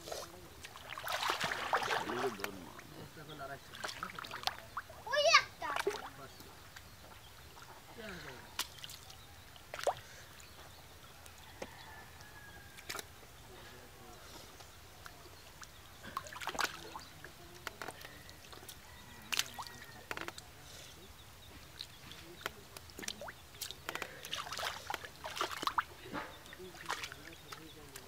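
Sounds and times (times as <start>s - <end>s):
muddy water splashing: 0.0s - 10.4s, 15.0s - 20.6s, 21.6s - 28.0s.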